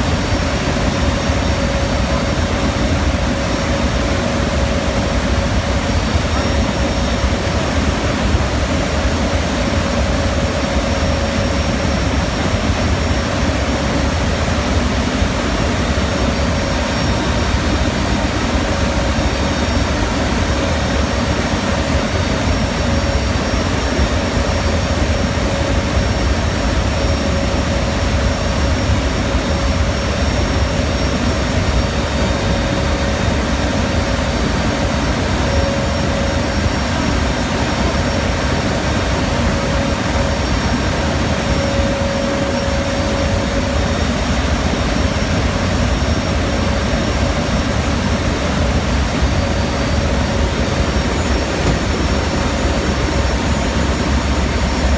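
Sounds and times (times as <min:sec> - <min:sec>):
steady whine: 0:00.0 - 0:54.9
turboprop engines running: 0:00.0 - 0:54.9.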